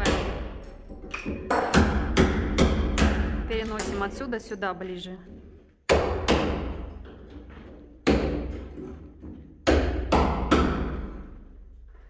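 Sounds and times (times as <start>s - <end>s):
hammer striking chisel: 0.0s - 4.1s, 5.3s - 11.4s.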